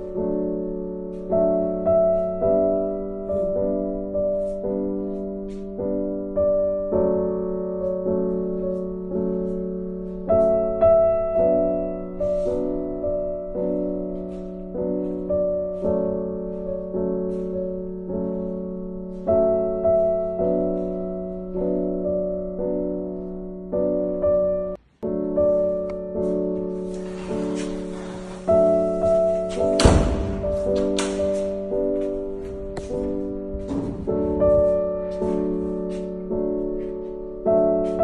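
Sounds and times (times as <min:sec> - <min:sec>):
gentle piano melody: 0:00.0 - 0:38.0.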